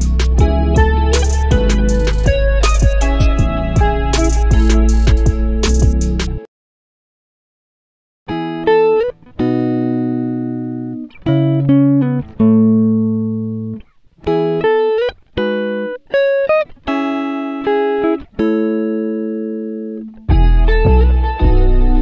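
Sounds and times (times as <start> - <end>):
guitar plucked notes and chords: 0.0 - 6.5, 8.3 - 22.0.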